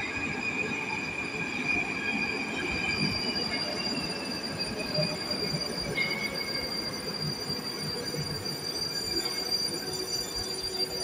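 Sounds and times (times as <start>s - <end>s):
metro train wheels rumbling: 0.0s - 11.0s.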